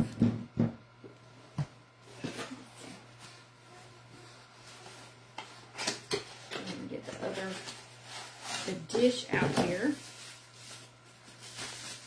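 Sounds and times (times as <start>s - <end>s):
cardboard and paper rustling: 2.1s - 12.0s.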